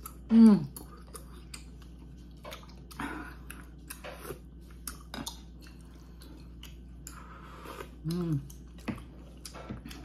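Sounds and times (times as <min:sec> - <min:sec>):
wet chewing mouth sounds: 0:00.0 - 0:10.0.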